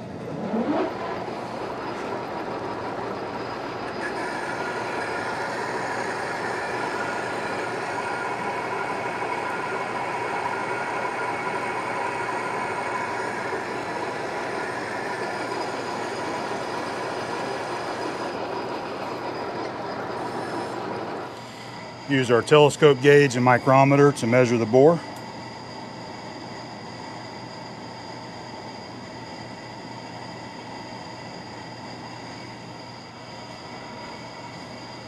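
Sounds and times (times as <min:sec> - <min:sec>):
faint steady whine: 0:00.0 - 0:35.0
lathe mechanical drone: 0:00.0 - 0:35.0.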